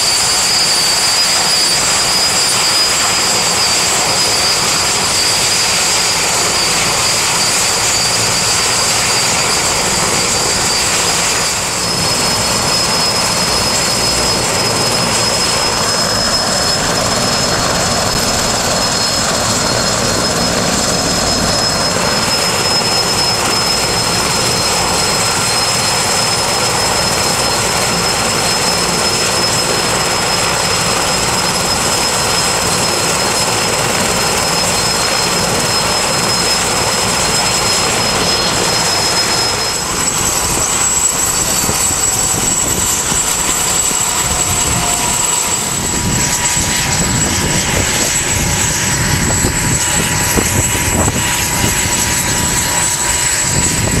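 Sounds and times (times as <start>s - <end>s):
helicopter rotor noise: 0.0s - 54.0s
helicopter turbine whine: 0.0s - 54.0s.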